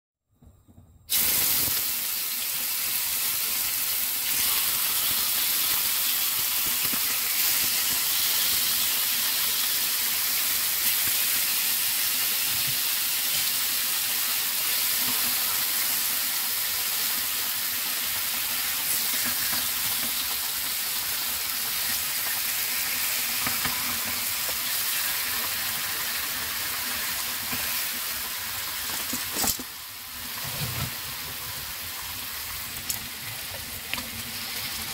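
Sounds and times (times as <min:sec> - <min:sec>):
meat sizzling in frying pan: 0:01.1 - 0:34.9.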